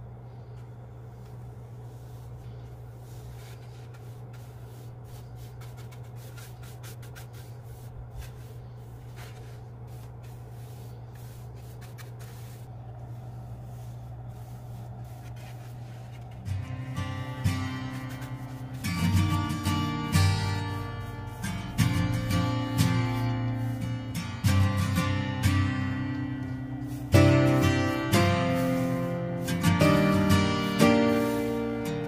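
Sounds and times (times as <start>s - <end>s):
low hum: 0.0s - 32.0s
brush swishing on wood: 0.3s - 32.0s.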